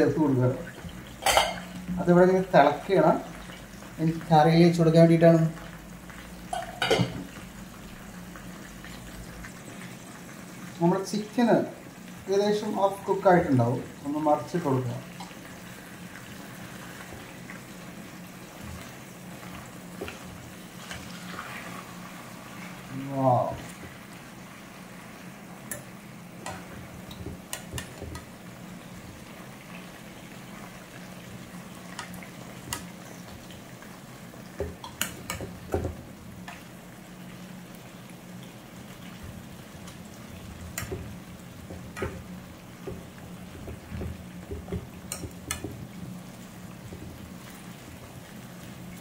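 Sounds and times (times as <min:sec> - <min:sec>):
chicken sizzling in oil: 0:00.0 - 0:49.0.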